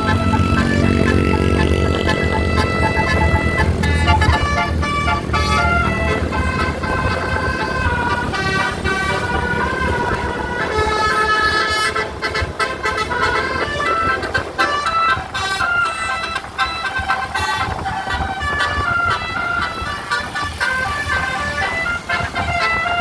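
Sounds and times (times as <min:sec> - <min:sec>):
bus engine rumble: 0:00.0 - 0:23.0
bus horn playing a tune: 0:00.0 - 0:23.0.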